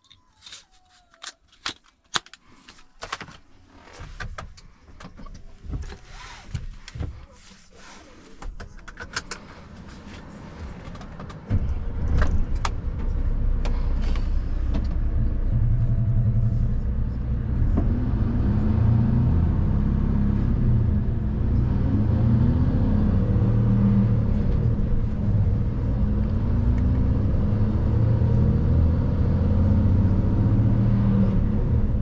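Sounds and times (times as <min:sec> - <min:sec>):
truck engine rumble: 0:03.5 - 0:32.0.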